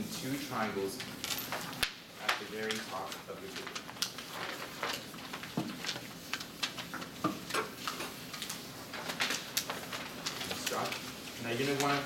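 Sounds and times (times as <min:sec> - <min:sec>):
paper rustling and crinkling: 0:00.2 - 0:12.0.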